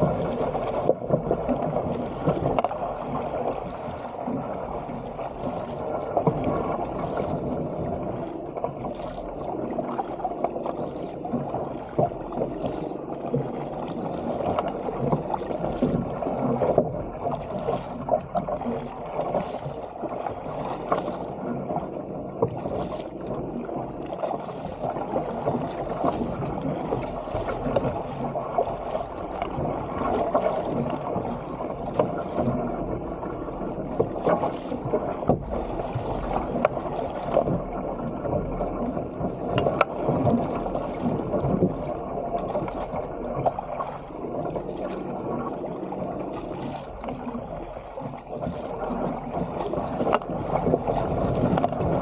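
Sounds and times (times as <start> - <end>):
paddle splashes: 0.0 - 52.0
water splashing against kayak hull: 0.0 - 52.0.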